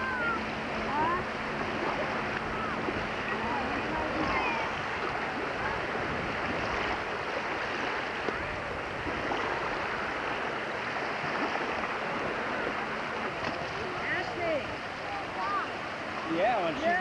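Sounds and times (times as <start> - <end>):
faint distant voices: 0.0 - 17.0
small waves: 0.0 - 17.0
wind at seashore: 0.0 - 17.0.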